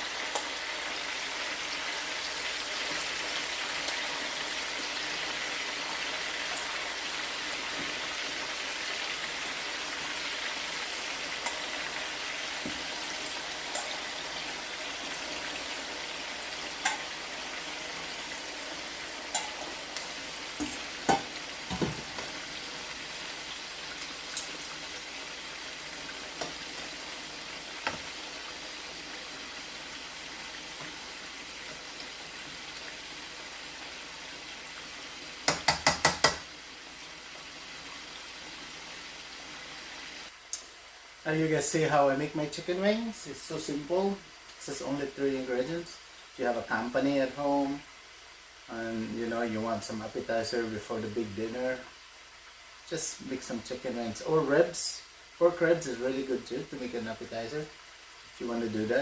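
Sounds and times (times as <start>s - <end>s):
wings deep-frying in oil: 0.0s - 59.0s.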